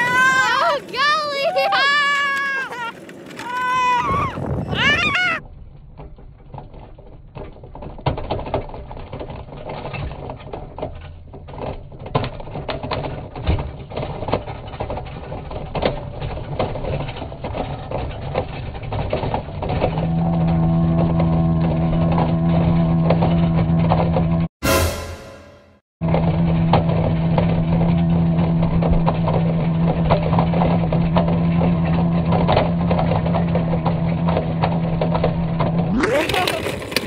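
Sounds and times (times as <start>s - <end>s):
deep stretched rolling rumble: 3.0s - 24.5s, 26.0s - 37.0s.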